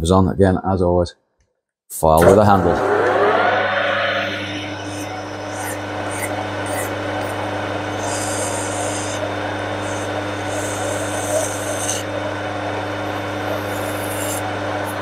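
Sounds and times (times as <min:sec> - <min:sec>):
lathe humming: 0:02.2 - 0:14.4.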